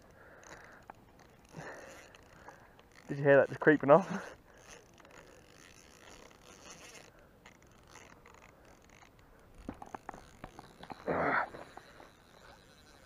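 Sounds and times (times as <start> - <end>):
faint rustle: 0.0 - 13.0
fishing reel clicks: 0.0 - 13.0.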